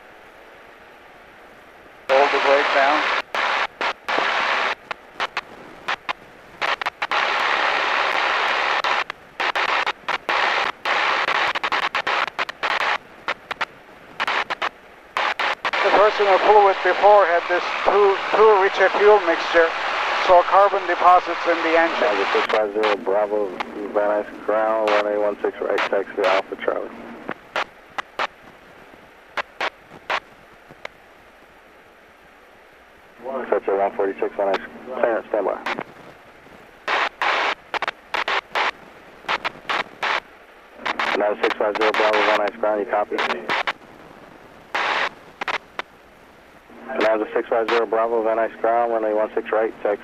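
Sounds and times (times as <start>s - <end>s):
airplane engine hiss over intercom: 1.1s - 31.4s, 32.9s - 50.0s.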